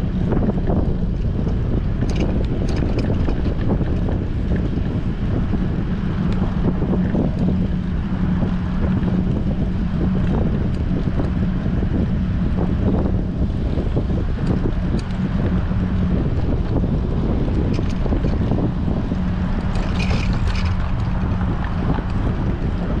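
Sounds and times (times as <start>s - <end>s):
low hum: 0.0s - 23.0s
wind buffeting microphone: 0.0s - 23.0s.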